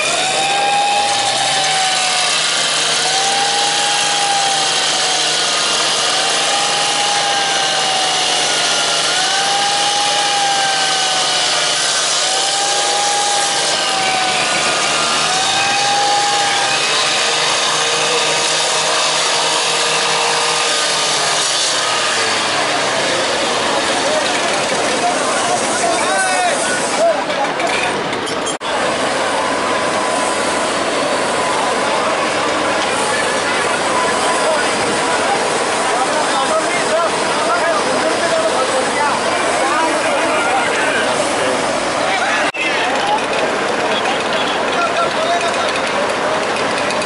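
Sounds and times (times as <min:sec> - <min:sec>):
power cutter grinding steel: 0:00.0 - 0:47.0.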